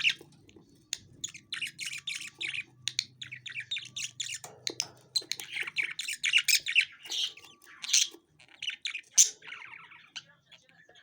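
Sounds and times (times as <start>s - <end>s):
budgerigars chirping and chattering: 0.0s - 11.0s.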